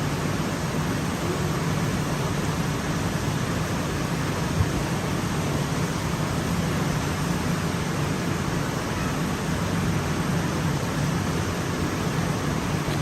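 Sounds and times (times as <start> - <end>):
pump and rushing water: 0.0 - 13.0.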